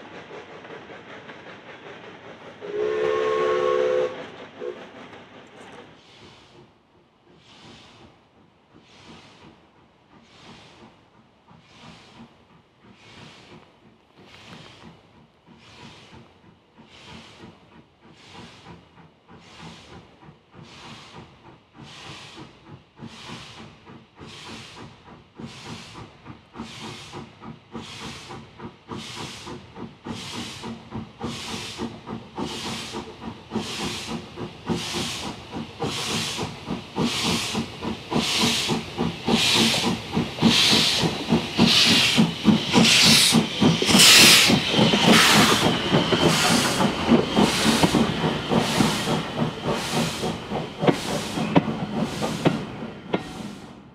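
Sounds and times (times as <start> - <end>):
steam locomotive exhaust chuffing: 0.0 - 53.9.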